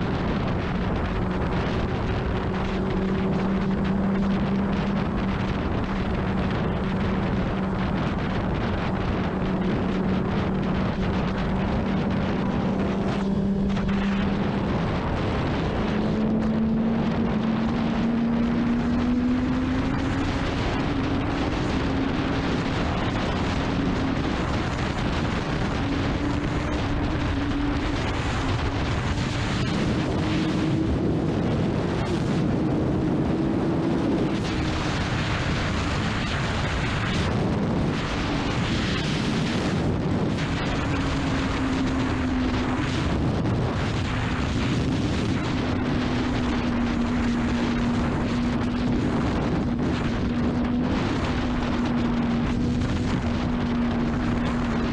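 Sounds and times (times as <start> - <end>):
motorcycle engine running: 0.0 - 54.9
wind rush on microphone: 0.0 - 54.9.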